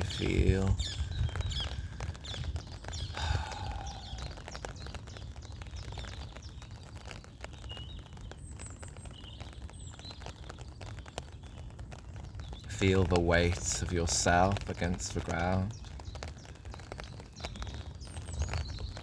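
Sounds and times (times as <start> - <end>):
birds chirping: 0.0 - 19.0
raindrops pattering: 0.0 - 19.0.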